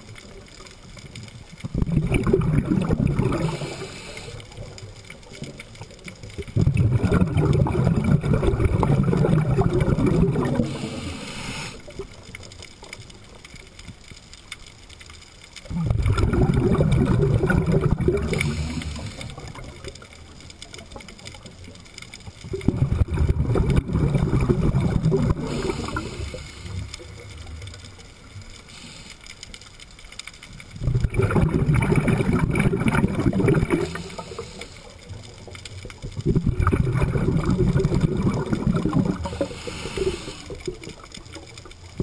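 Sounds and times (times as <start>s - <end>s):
diver's bubbles gurgling: 0.0s - 14.1s, 15.5s - 28.8s, 29.9s - 42.0s.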